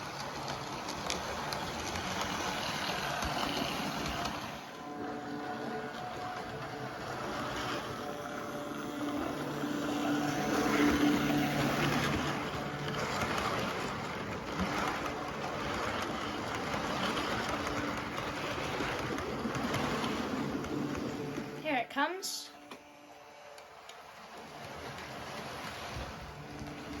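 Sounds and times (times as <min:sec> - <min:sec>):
diesel locomotive engine drone: 0:00.0 - 0:27.0.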